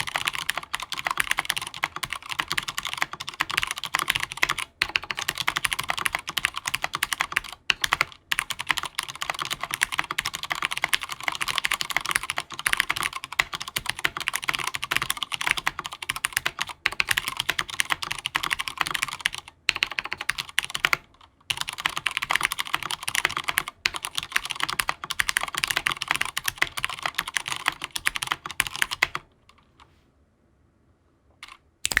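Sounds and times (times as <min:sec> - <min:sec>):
mechanical keyboard typing: 0:00.0 - 0:29.3, 0:31.4 - 0:32.0.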